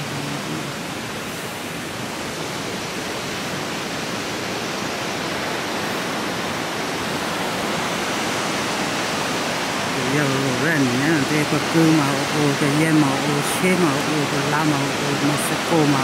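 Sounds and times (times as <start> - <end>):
water rushing from dam outlet: 0.0 - 16.0.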